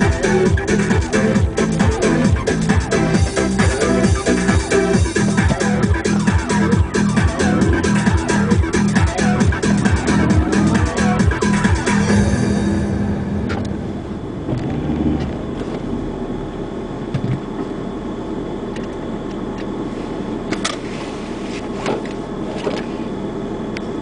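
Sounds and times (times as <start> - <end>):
car engine idling: 0.0 - 21.3.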